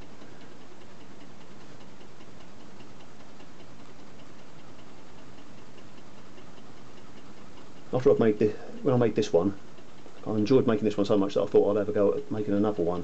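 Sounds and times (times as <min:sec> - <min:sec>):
stirling engine ticking: 0:00.0 - 0:13.0.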